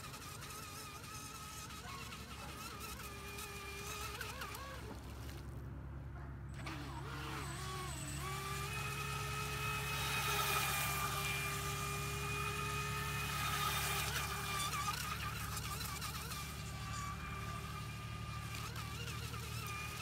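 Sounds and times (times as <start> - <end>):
electric motor high-pitched whine: 0.0 - 5.1, 6.6 - 20.0.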